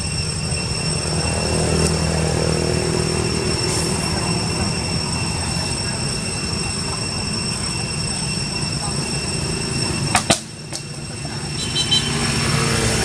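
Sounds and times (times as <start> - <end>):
high-pitched whine: 0.0 - 13.0
motorbike engine rumble: 0.0 - 13.0
pitched hum: 0.0 - 13.0.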